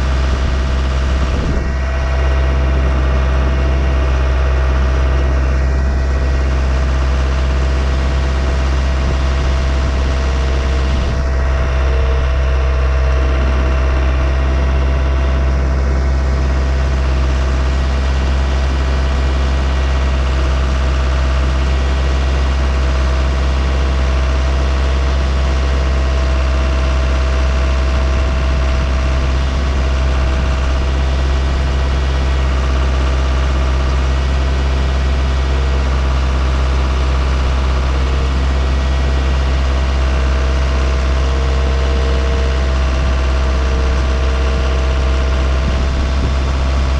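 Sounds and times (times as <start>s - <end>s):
sawmill droning: 0.0s - 46.9s.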